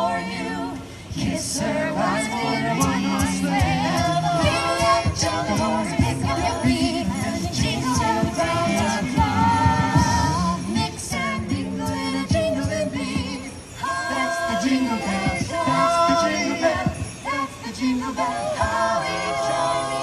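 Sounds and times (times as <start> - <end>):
a cappella group singing: 0.0 - 20.0
vocal percussive hits: 1.2 - 19.7.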